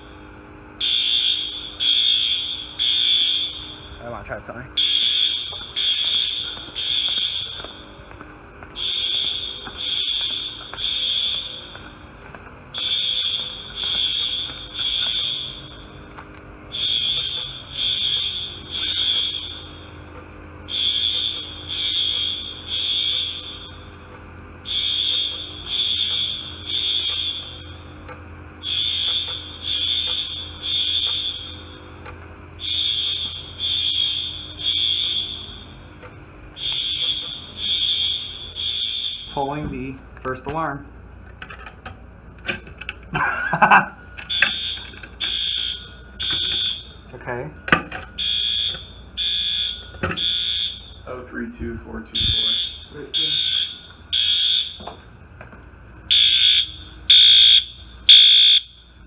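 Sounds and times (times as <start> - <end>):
fire alarm horns blasting: 0.0 - 41.2, 41.8 - 59.0.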